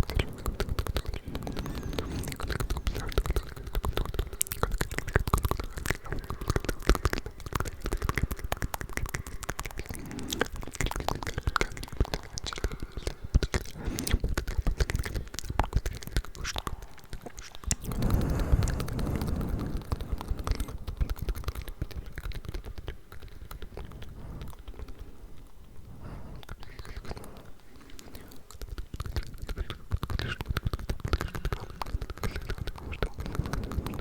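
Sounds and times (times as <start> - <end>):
faint whispering: 0.0 - 34.0
wet mouth clicks and smacks: 0.0 - 34.0.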